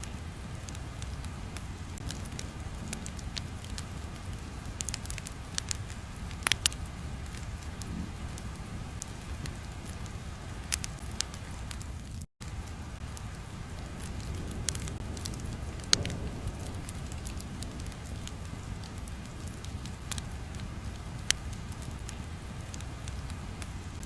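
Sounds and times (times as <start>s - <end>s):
low rumbling noise: 0.0s - 24.0s
sharp pops and crackles: 0.0s - 24.0s.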